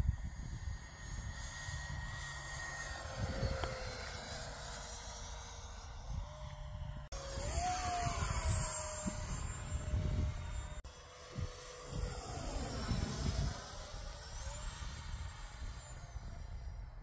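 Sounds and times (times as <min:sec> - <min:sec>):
model jet fan whining: 0:00.0 - 0:17.0.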